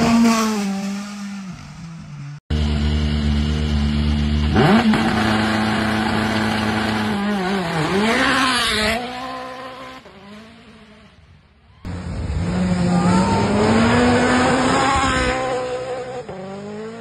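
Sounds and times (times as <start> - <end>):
car engine revving: 0.0 - 11.0, 11.9 - 17.0.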